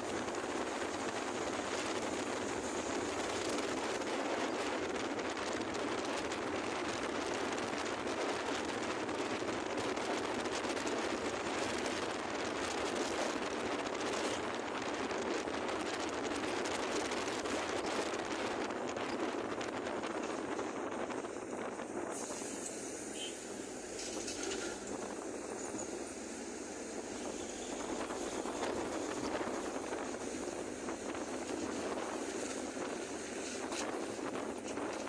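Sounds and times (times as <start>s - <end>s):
wind buffeting microphone: 0.0s - 22.6s, 23.8s - 25.6s, 26.4s - 35.0s.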